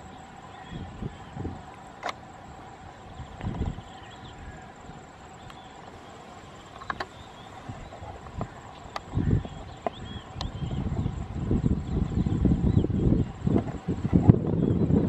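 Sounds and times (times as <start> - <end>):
birds chirping: 0.0 - 15.0
faint steady hum: 0.0 - 15.0
insects chirping: 0.0 - 15.0
wind buffeting microphone: 0.0 - 15.0.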